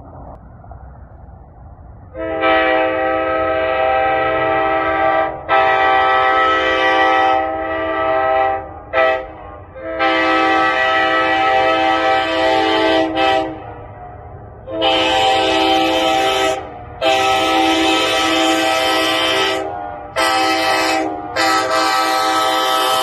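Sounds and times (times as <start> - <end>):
train horn chord blasts: 2.1 - 13.8, 14.6 - 23.0.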